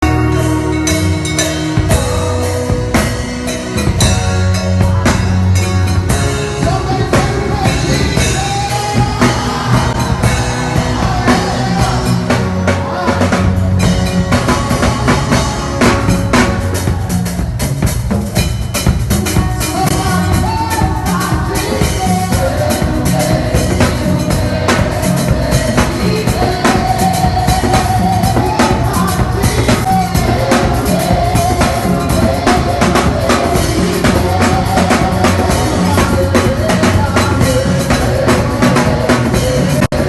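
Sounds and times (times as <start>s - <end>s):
gospel song with drum beat: 0.0s - 40.0s.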